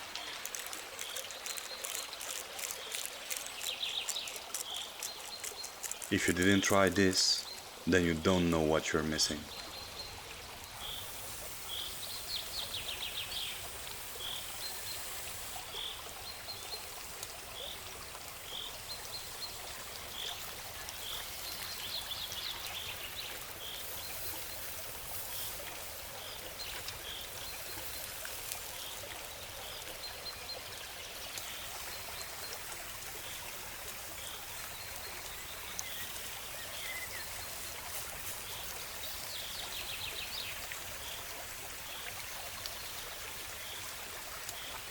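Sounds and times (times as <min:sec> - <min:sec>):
flowing stream: 0:00.0 - 0:44.9.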